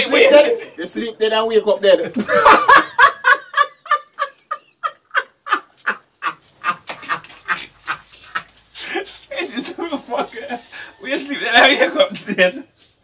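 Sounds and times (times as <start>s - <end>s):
men laughing hard: 2.1s - 12.6s.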